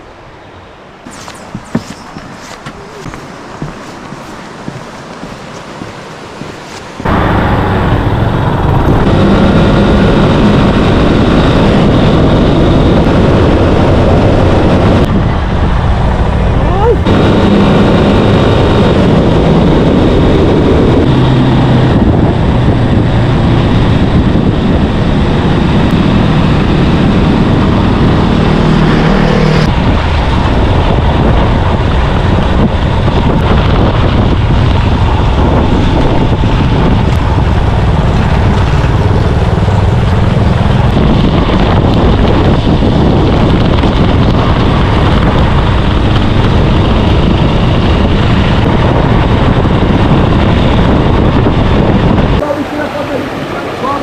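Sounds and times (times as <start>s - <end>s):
wind noise on microphone: 1.0s - 54.0s
vehicle engine running: 1.1s - 54.0s.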